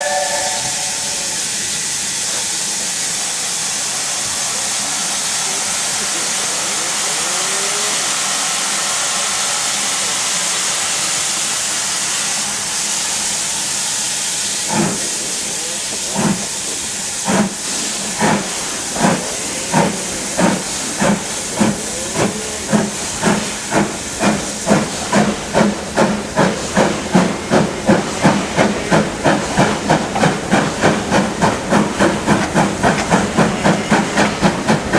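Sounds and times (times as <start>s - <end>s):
steam hissing: 0.0s - 34.9s
steam locomotive exhaust chuffs: 0.0s - 34.9s.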